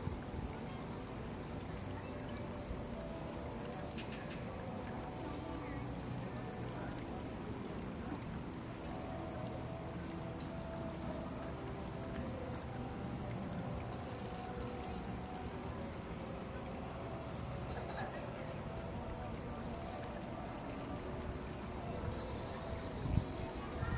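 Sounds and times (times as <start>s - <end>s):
high-pitched insect drone: 0.0s - 23.9s.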